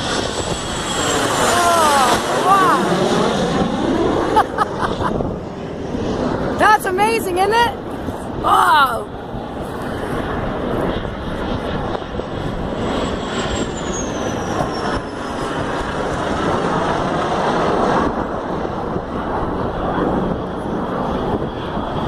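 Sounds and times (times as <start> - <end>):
high engine whine: 0.0 - 22.0
jets passing low overhead: 0.0 - 22.0.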